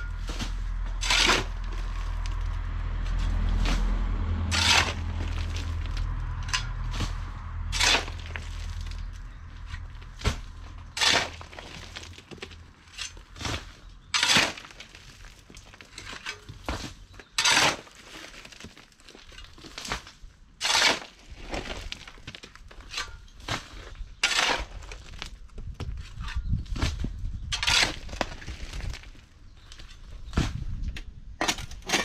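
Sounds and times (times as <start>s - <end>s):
rubble scraped with tool: 0.0s - 2.6s, 4.5s - 30.7s.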